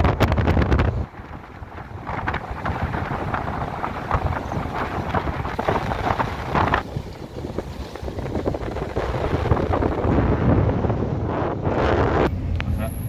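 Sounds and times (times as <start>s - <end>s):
wind buffeting microphone: 0.0s - 12.8s
low road rumble: 0.0s - 13.0s.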